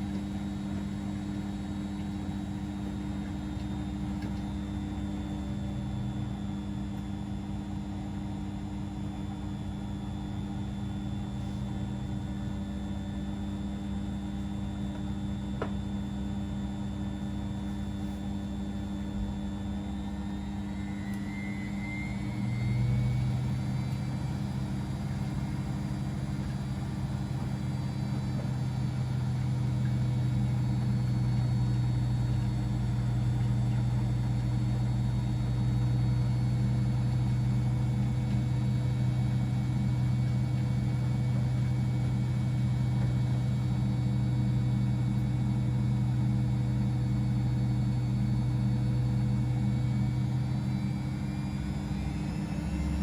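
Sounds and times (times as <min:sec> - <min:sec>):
laundry machines motor hum: 0:00.0 - 0:53.0.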